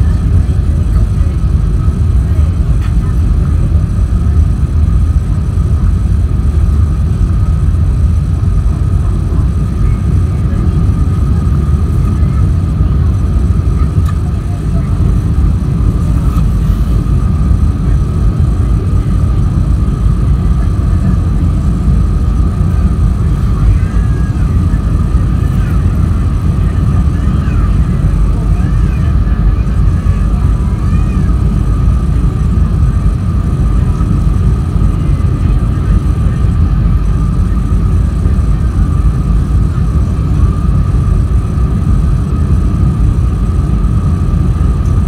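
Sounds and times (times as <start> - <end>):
constant engine whine: 0.0 - 45.0
faint voices: 0.0 - 45.0
jet engines and airflow rumbling: 0.0 - 45.0.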